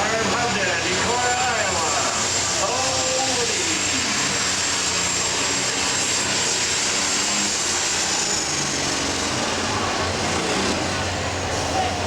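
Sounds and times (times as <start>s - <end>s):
high turbo whine: 0.0s - 12.0s
tractor engine running hard: 0.0s - 12.0s.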